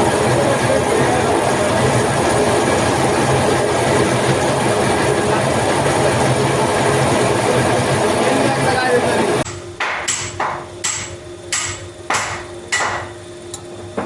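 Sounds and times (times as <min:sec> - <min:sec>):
workshop machine running: 0:00.0 - 0:14.0.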